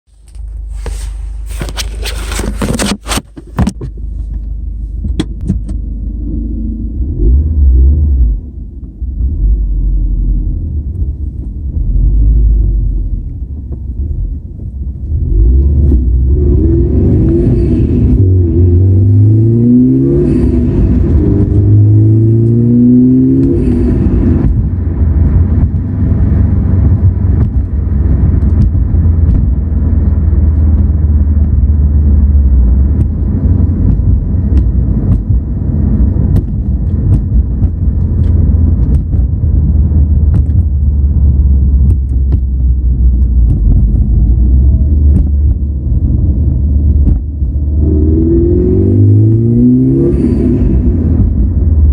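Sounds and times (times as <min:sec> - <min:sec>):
car engine accelerating: 0:04.1 - 0:51.9.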